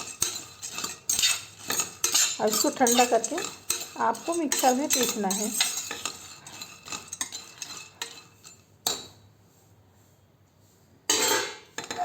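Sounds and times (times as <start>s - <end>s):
metal spoon scraping a pan: 0.0s - 9.1s, 11.1s - 12.0s.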